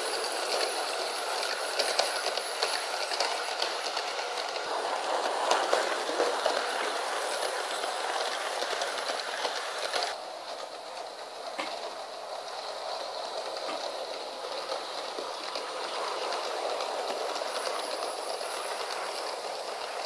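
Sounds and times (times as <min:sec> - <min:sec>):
model train rattling rumble: 0:00.0 - 0:20.0
wheels clicking over rail joints: 0:00.0 - 0:20.0.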